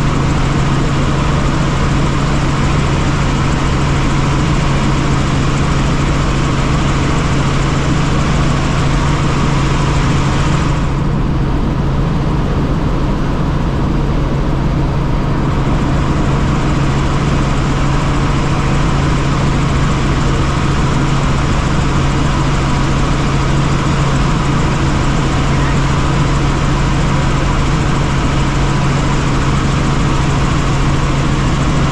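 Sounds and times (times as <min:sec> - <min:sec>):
helicopter engine and rotor drone: 0:00.0 - 0:31.9.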